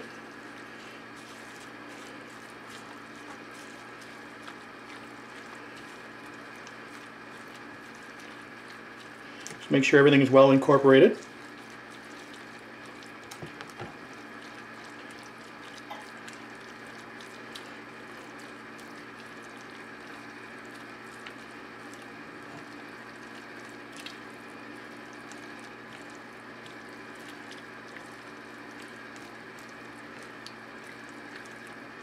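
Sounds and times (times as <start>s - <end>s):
steady low hum: 0.0s - 32.0s
wet squishing of stirred dip: 0.0s - 32.0s.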